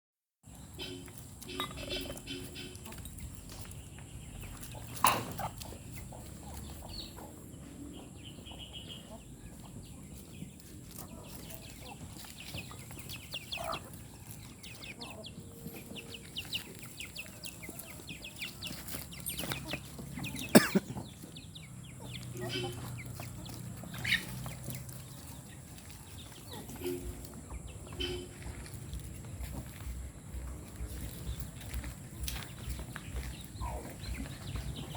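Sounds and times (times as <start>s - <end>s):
chickens clucking: 0.5s - 34.9s.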